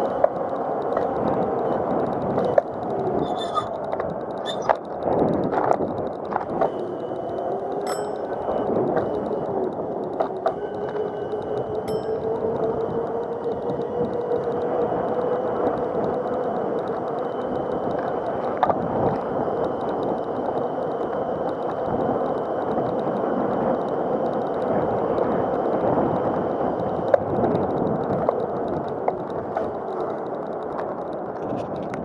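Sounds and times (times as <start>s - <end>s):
electric motor whine: 0.0s - 30.0s
tyre and wind noise: 0.0s - 32.0s
wheels knocking over bumps: 0.0s - 32.0s.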